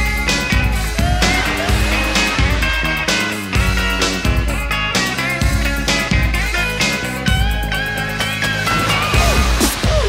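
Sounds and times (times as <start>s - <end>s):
background music with bass and guitar: 0.0s - 10.0s.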